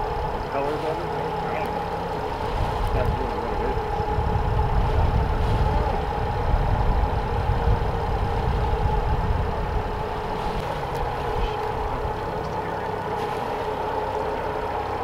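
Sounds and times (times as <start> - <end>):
boat engine droning: 0.0 - 15.0
low uneven rumble: 0.0 - 15.0.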